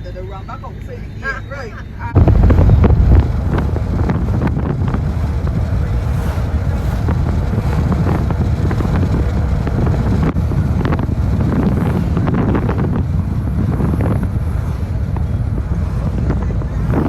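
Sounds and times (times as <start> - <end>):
wind buffeting microphone: 0.2 - 17.0.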